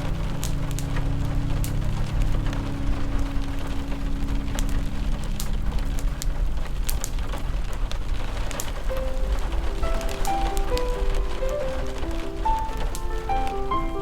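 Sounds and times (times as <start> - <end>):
low music chord: 0.0 - 7.0, 8.9 - 14.0
soft melodic notes: 0.0 - 7.1, 8.8 - 14.0
fire crackling: 0.0 - 14.0
steady rain: 0.0 - 14.0.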